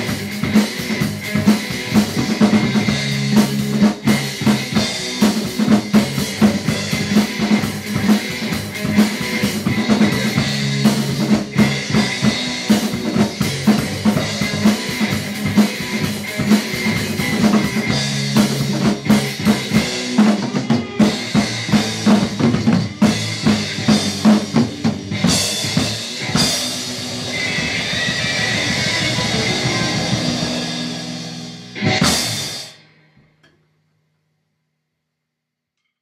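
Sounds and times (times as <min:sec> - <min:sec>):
rock drum kit played hard: 0:00.0 - 0:33.1
hard rock recording: 0:00.0 - 0:33.2.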